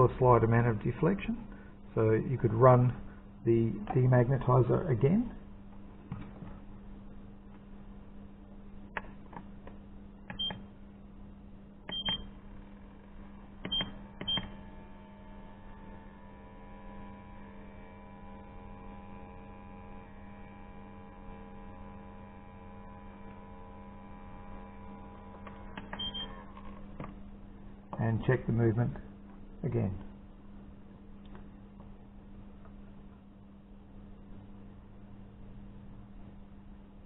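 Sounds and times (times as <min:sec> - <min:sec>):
demagnetiser electrical hum: 0:00.0 - 0:37.0.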